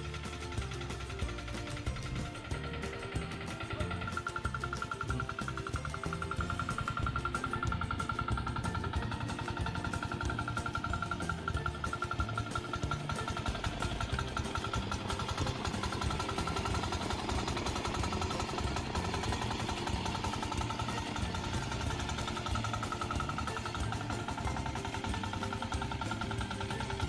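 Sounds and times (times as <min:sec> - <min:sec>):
small diesel engine running: 0:00.0 - 0:27.0.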